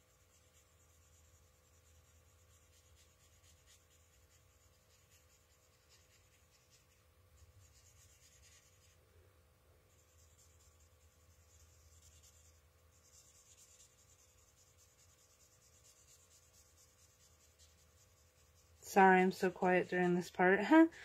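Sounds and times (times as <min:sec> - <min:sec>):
marker scratching on cardstock: 0:00.0 - 0:09.0, 0:09.9 - 0:19.9.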